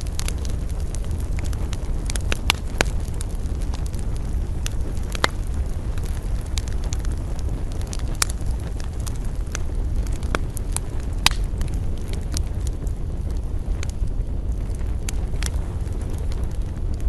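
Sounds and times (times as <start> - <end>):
campfire crackling: 0.0 - 17.0
low wind rumble: 0.0 - 17.0.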